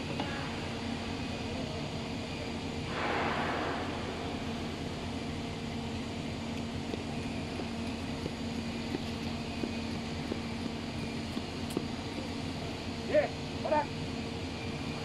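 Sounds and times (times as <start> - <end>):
low hum: 0.0 - 15.0
machinery running drone: 0.0 - 15.0.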